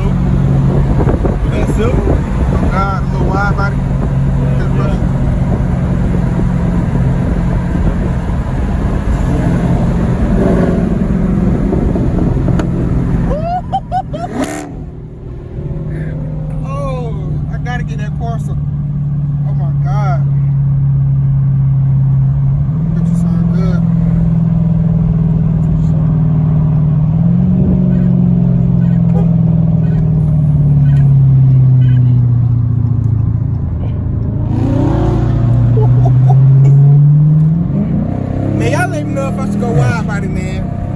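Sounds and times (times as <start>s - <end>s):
car exhaust droning: 0.0s - 40.9s.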